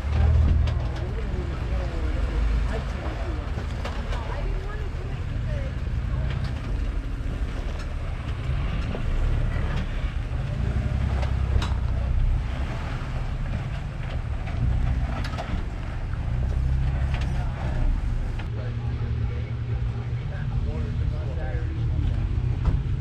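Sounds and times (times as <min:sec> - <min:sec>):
engine rumbling at low revs: 0:00.0 - 0:23.0.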